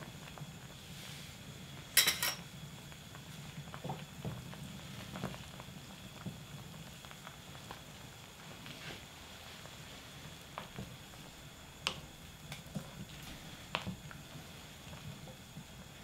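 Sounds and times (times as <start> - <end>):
soup boiling with pops: 0.0 - 16.0.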